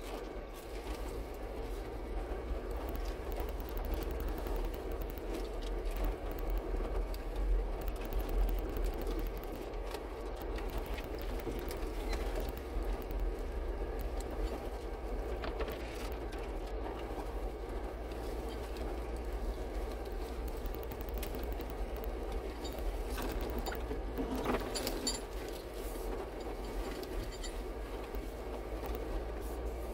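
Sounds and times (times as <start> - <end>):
vehicle engine rumbling: 0.0 - 29.9
rocks ticking and knocking: 2.4 - 29.4.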